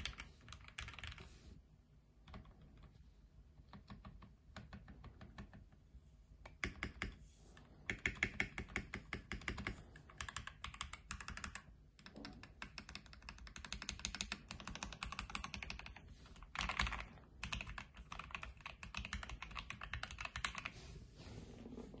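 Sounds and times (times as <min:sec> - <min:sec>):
fast keyboard typing: 0:00.0 - 0:01.3, 0:02.2 - 0:03.0, 0:03.6 - 0:05.7, 0:06.5 - 0:07.2, 0:07.8 - 0:20.7.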